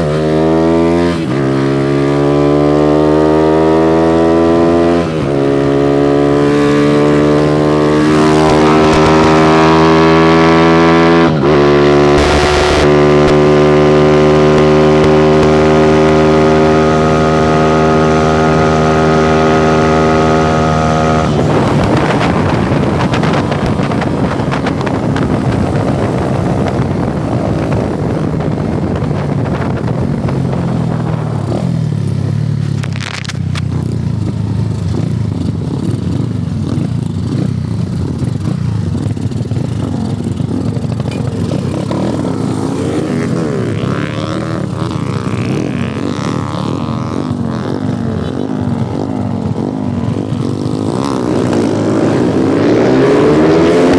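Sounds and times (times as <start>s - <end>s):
motorcycle engine at high revs: 0.0s - 53.9s
rushing wind noise: 0.0s - 53.9s.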